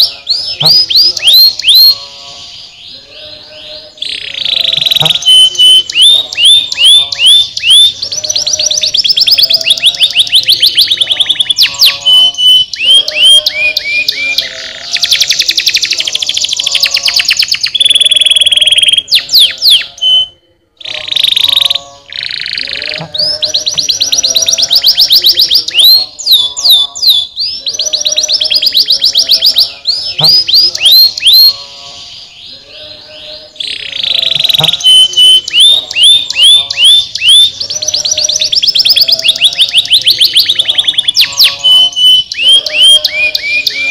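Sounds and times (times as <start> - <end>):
canary singing: 0.0 - 43.9.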